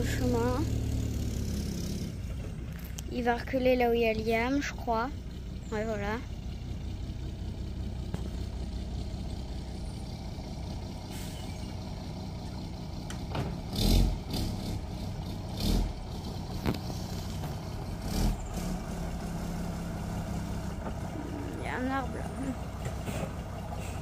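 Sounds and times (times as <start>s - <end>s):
large vehicle engine running: 0.0s - 24.0s.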